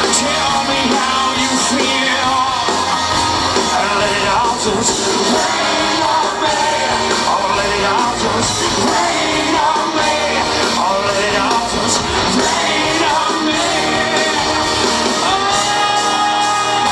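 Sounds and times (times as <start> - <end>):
person singing: 0.0 - 16.9
rock band guitars and drums: 0.0 - 16.9.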